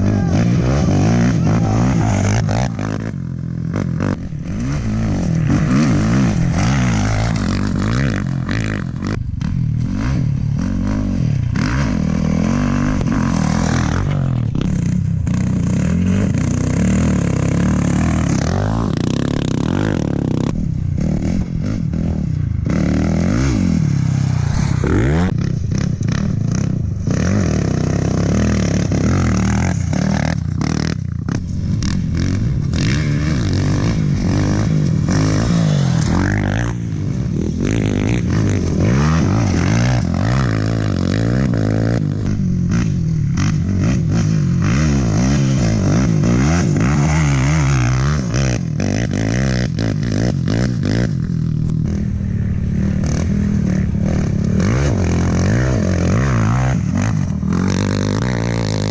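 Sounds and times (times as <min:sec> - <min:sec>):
motorcycle and quad engines revving: 0:00.0 - 0:58.9.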